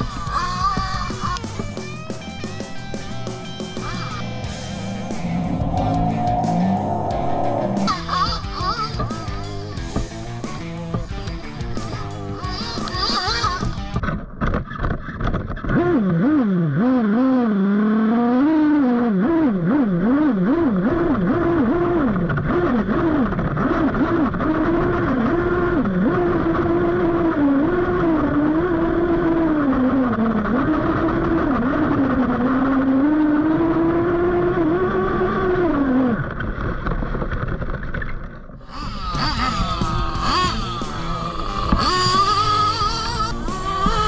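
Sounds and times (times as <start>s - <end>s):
nitro engine revving: 0.0s - 13.9s, 15.7s - 36.3s, 38.6s - 44.0s.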